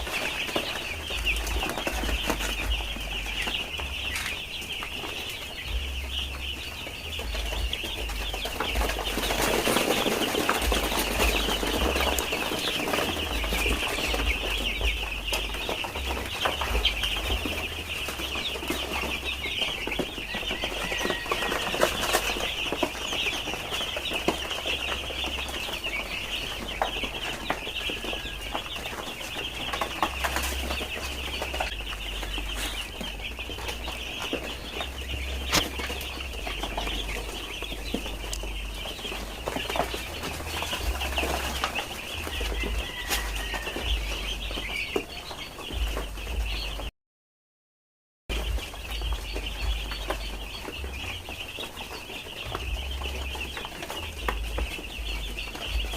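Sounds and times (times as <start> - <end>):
chicks peeping: 0.0 - 46.9, 48.3 - 55.9.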